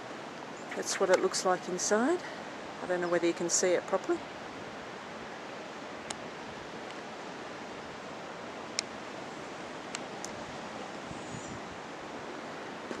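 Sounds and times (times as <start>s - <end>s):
rushing outdoor background noise: 0.0s - 13.0s.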